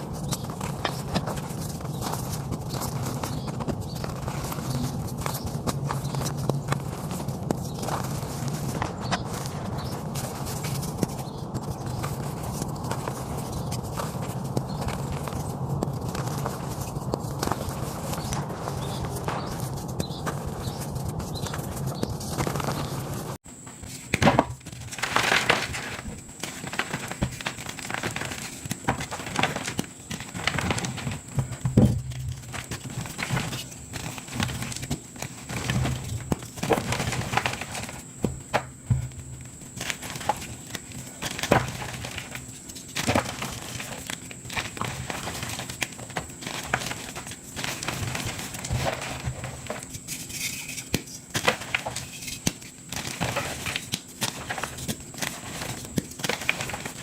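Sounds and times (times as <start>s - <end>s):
chalk crunching and crumbling: 0.0s - 57.0s.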